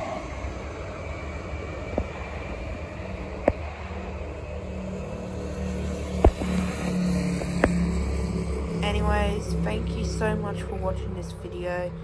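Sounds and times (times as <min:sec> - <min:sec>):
car passing: 0:00.0 - 0:12.0
freeway traffic hum: 0:00.0 - 0:12.0.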